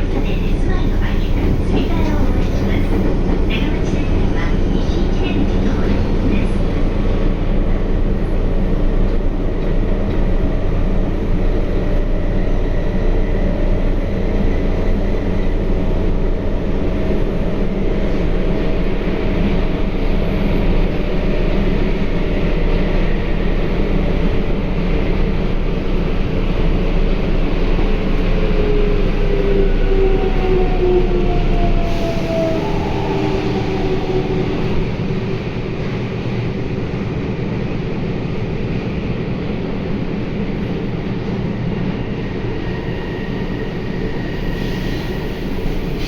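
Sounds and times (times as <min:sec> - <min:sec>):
train wheels rumbling: 0:00.0 - 0:46.0.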